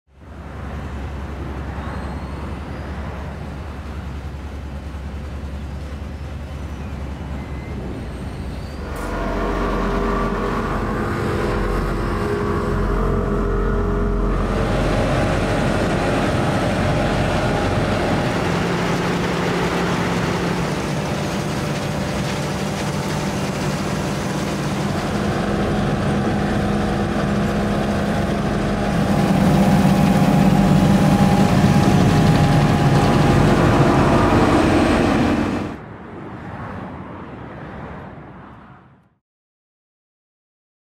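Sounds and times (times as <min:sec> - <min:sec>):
diesel paving machine engine drone: 0:00.2 - 0:35.8.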